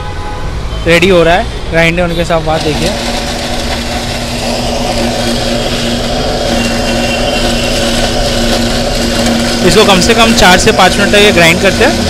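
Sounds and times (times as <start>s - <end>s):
mixer-grinder motor whirring: 2.2s - 12.0s.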